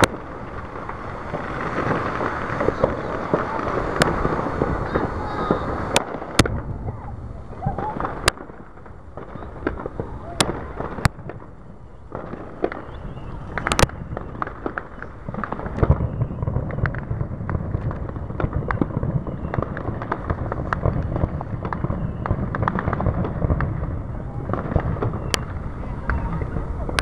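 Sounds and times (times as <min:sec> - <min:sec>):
firework bang: 0:00.0 - 0:27.0
fireworks popping and crackling: 0:00.0 - 0:27.0.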